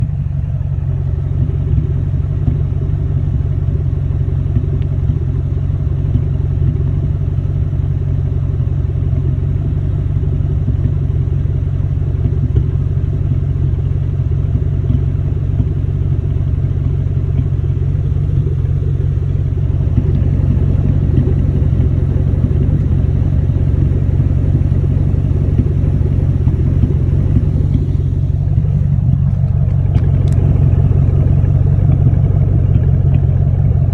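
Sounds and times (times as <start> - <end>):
car engine idling with misfire: 0.0 - 33.9.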